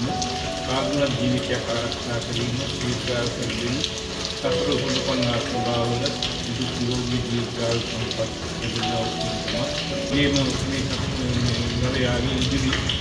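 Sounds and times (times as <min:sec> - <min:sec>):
music of held notes: 0:00.0 - 0:13.0.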